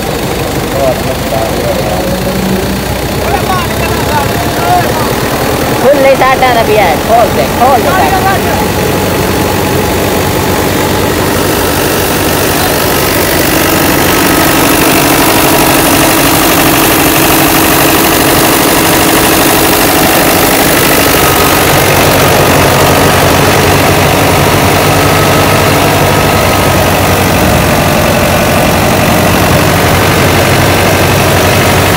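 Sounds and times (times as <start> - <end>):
thresher humming: 0.0 - 31.9
tractor engine running: 0.0 - 31.9.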